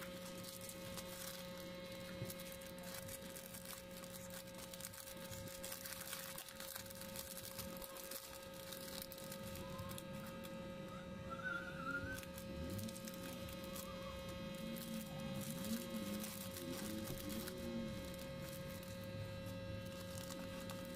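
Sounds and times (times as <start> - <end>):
paper and plastic rustling: 0.0 - 10.6, 12.1 - 20.9
steady electrical hum: 0.0 - 20.9.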